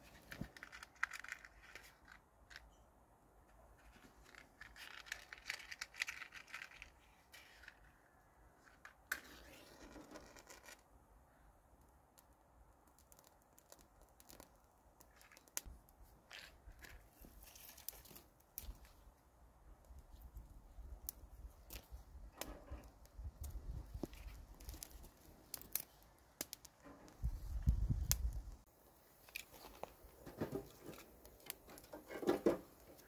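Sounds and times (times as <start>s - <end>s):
dry kindling crinkling: 0.0s - 2.8s, 3.5s - 10.8s, 12.2s - 33.0s.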